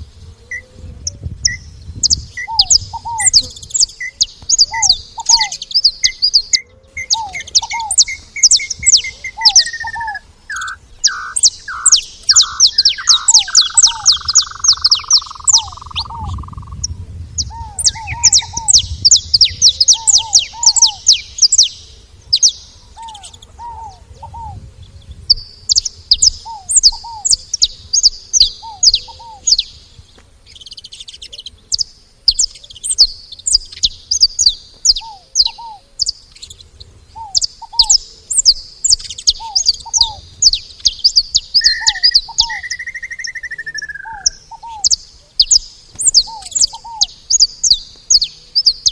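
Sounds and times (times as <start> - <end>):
finch chirping: 0.0 - 48.9.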